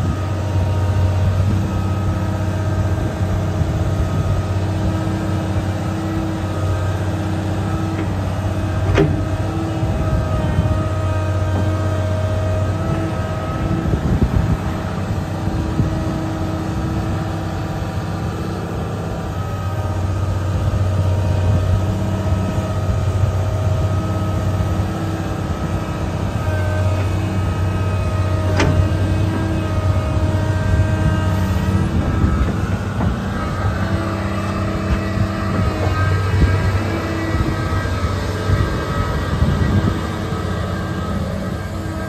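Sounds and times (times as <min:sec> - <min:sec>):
excavator diesel engine running: 0:00.0 - 0:42.0
hydraulic pump whine: 0:00.0 - 0:42.0.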